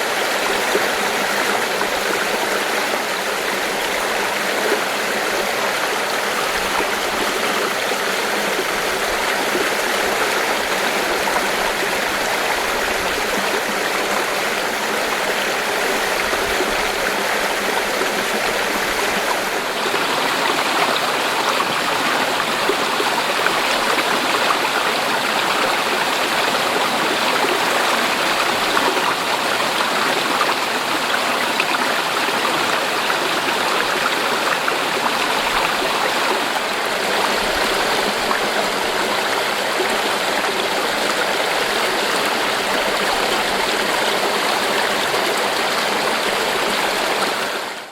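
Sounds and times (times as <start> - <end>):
stream flowing over rocks: 0.0 - 47.9.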